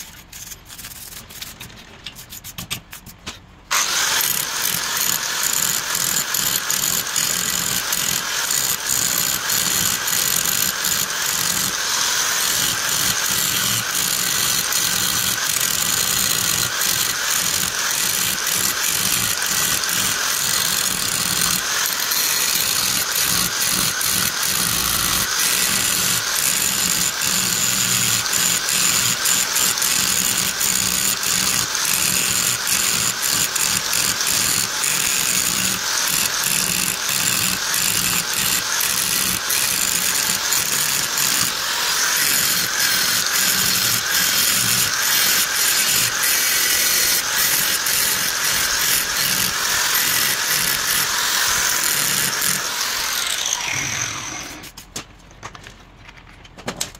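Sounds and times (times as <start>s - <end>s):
angle grinder grinding steel: 3.7s - 54.8s.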